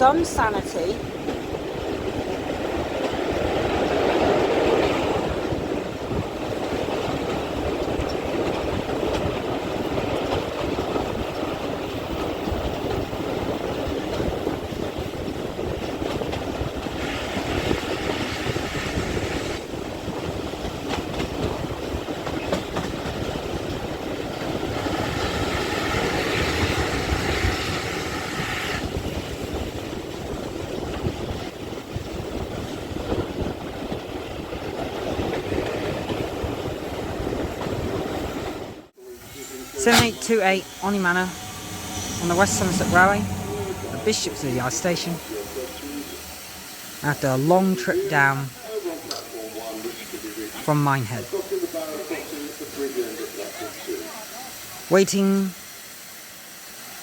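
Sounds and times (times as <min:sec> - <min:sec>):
train wheels rumbling on rails: 0:00.0 - 0:50.6.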